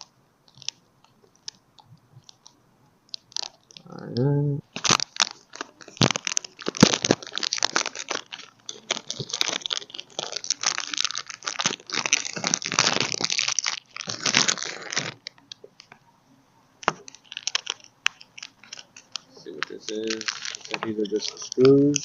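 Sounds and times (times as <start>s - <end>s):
plastic packaging crinkling: 0.0s - 1.6s, 2.2s - 3.9s, 4.7s - 16.0s, 16.8s - 22.0s.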